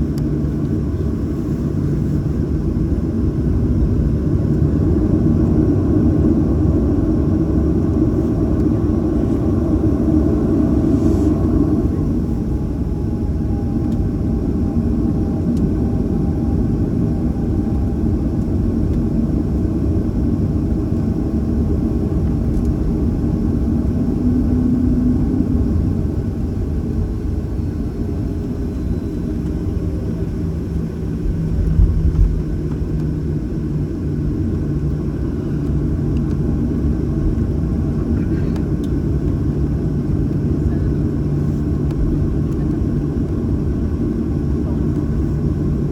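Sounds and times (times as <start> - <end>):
jet engines idling rumble: 0.0 - 45.9.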